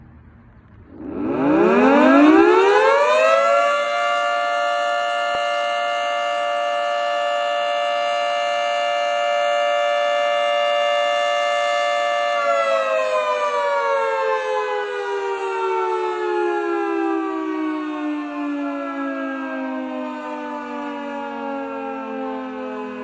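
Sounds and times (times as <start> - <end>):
two-tone warning siren wailing: 0.9 - 23.0.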